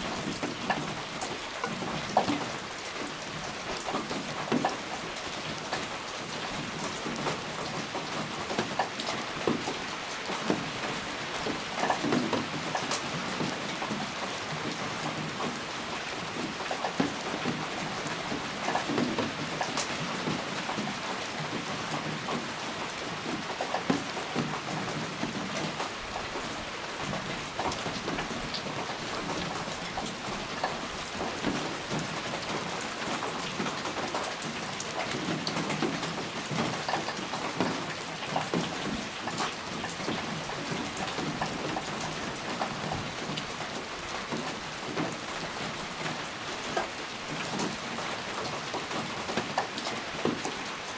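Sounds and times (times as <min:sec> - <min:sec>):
raindrops tapping on a surface: 0:00.0 - 0:50.9
steady rain hiss: 0:00.0 - 0:50.9.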